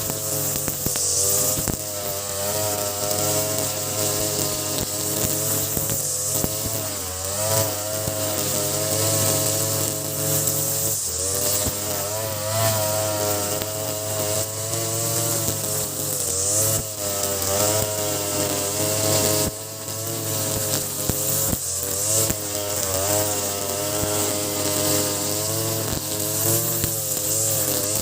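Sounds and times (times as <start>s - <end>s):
brush cutter engine at high revs: 0.0s - 28.0s
trimmer line cutting grass: 0.0s - 28.0s.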